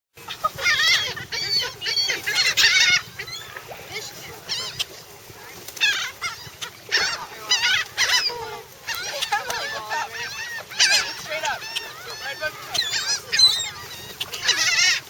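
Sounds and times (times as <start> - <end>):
gulls squealing cries: 0.2 - 15.0.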